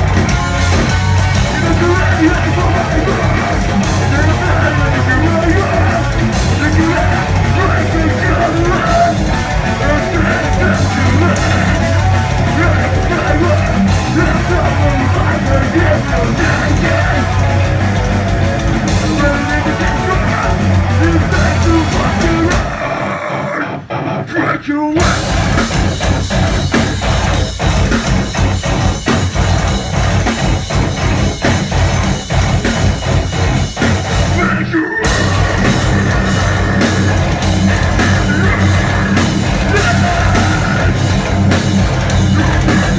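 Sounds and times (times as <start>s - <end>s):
live heavy rock band: 0.0s - 42.9s.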